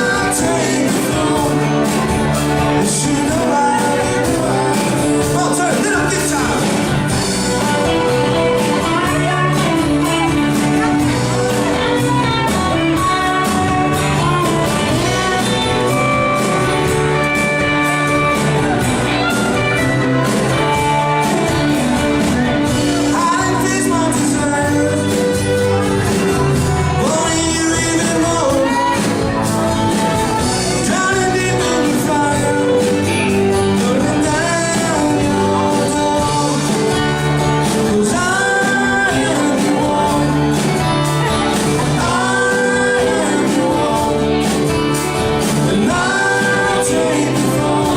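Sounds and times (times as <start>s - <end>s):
live rock band playing: 0.0s - 47.9s
person singing: 0.0s - 47.9s.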